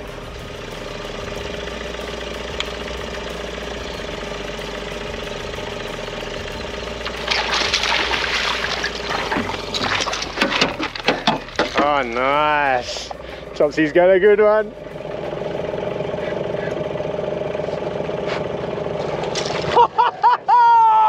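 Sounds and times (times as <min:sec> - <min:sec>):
boat motor idling: 0:00.0 - 0:20.3.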